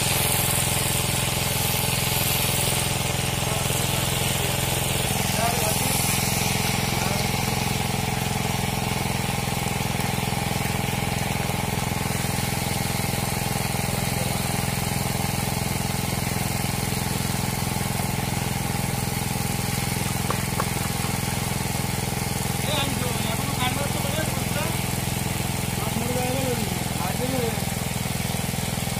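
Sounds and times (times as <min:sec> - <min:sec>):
water pump humming: 0:00.0 - 0:28.9.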